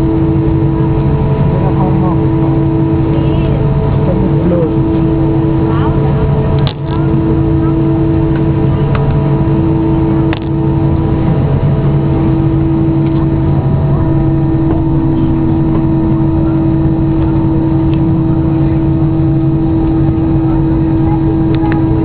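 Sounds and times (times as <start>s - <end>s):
airplane cabin engine hum: 0.0s - 22.0s.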